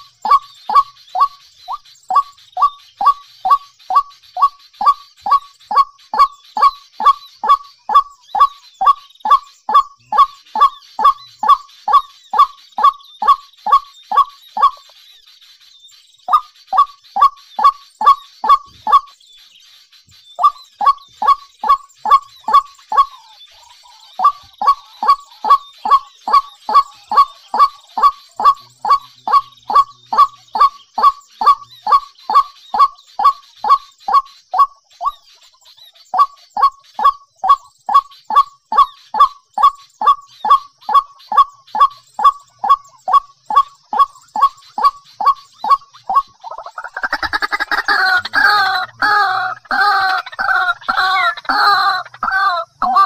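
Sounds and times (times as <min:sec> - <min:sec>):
bird honking calls: 0:00.0 - 0:15.0, 0:16.3 - 0:19.1, 0:20.4 - 0:35.4, 0:36.1 - 0:53.0.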